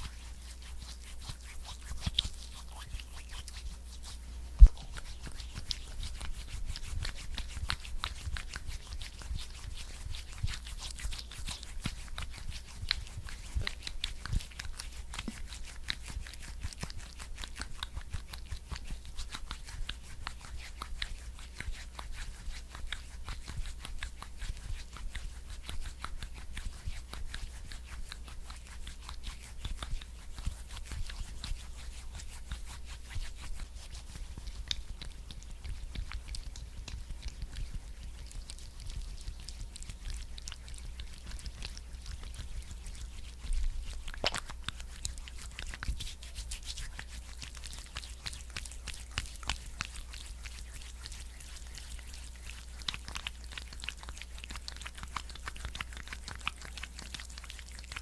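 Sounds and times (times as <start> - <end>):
wet crackling of skincare product: 0.0 - 58.0.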